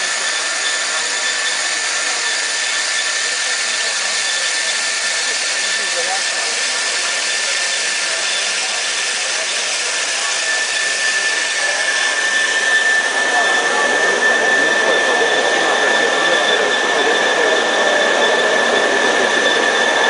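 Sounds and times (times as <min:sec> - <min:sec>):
band saw whine: 0:00.0 - 0:20.0
hissing machine noise: 0:00.0 - 0:20.0.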